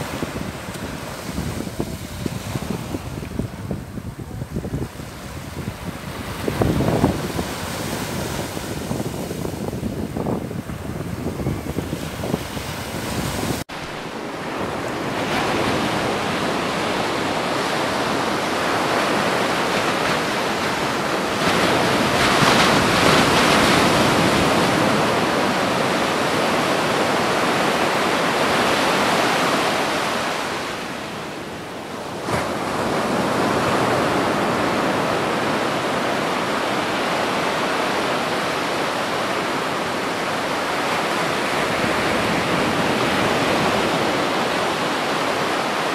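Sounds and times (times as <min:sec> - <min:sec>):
surf washing onto shore: 0:00.0 - 0:45.9
wind on microphone: 0:00.0 - 0:45.9.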